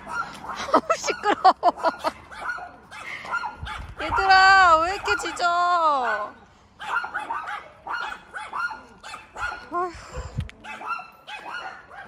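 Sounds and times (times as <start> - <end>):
dogs barking: 0.0 - 9.8, 10.6 - 12.0.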